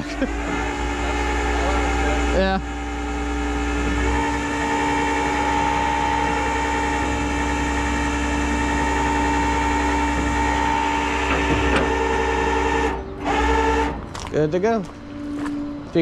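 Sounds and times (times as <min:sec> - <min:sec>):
hydraulics whining: 0:00.0 - 0:16.0
truck engine running: 0:00.0 - 0:16.0.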